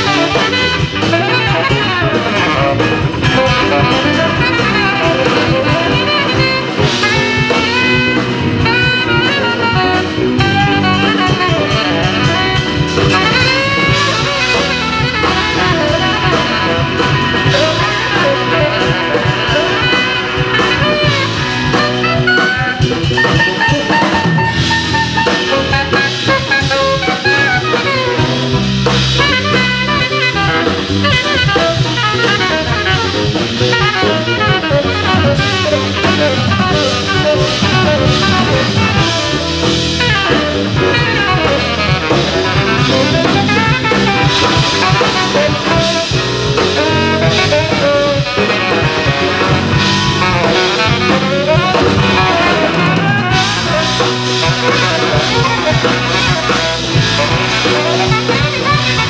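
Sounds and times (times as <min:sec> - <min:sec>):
bass: 0:00.0 - 0:59.0
drum kit: 0:00.0 - 0:59.0
guitar: 0:00.0 - 0:59.0
saxophone: 0:00.0 - 0:59.0.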